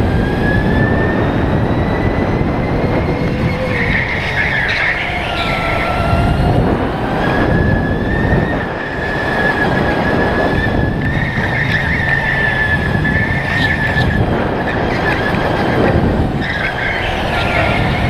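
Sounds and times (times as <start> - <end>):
electric motor whining: 0.0 - 18.0
go-kart rolling on track: 0.0 - 18.0.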